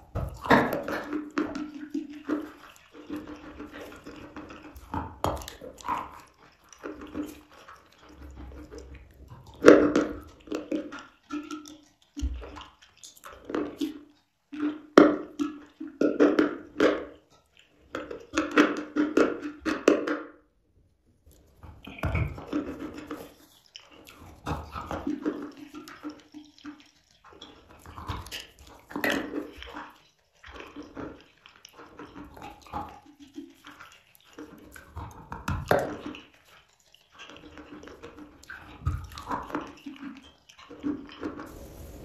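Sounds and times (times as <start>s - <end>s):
chewing chalk crunches: 0.0s - 20.1s, 21.2s - 42.0s.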